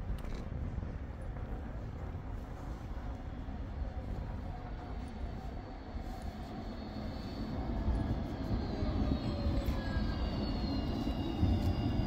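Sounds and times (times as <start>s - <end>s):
tram rumble: 0.0s - 12.0s.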